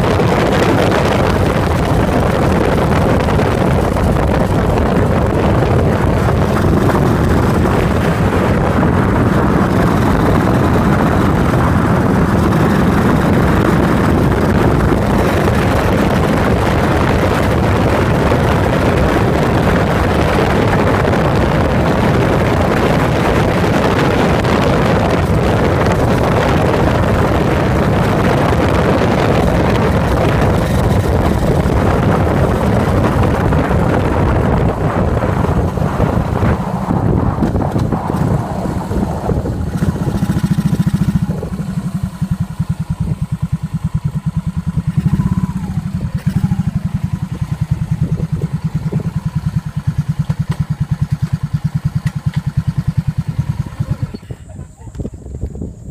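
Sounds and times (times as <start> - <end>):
motorcycle engine running: 0.0 - 55.9
wind noise on microphone: 0.0 - 55.9.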